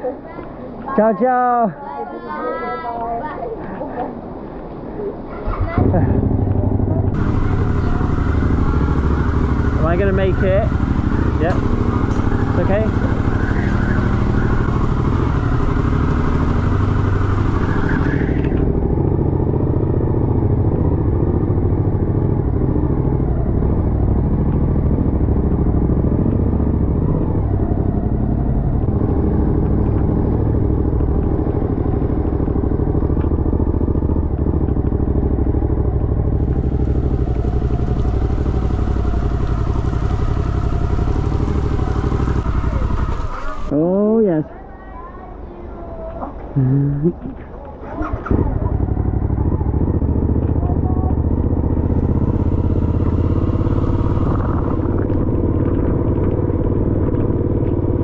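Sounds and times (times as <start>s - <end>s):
motorcycles running at low revs: 5.4s - 44.2s, 46.0s - 58.0s.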